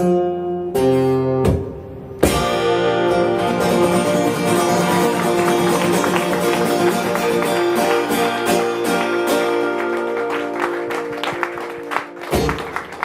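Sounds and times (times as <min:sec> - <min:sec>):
plucked notes over held chords: 0:00.0 - 0:12.8.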